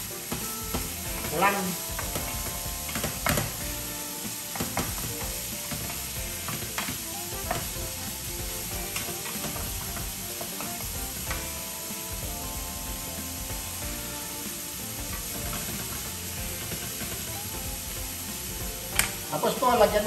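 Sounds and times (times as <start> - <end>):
meat sizzling in a frying pan: 0.0 - 20.0.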